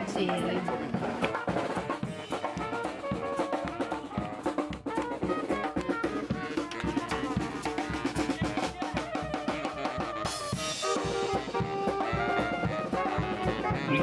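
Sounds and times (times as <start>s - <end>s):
drum kit beat: 0.0s - 14.0s
saxophone: 0.2s - 14.0s.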